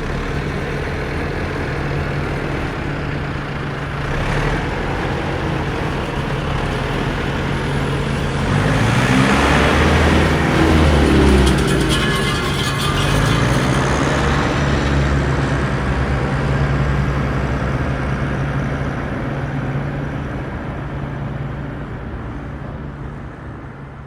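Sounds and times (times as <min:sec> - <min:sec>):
off-road vehicle engine running: 0:00.0 - 0:22.9
rumble of vehicle noise: 0:00.0 - 0:24.0.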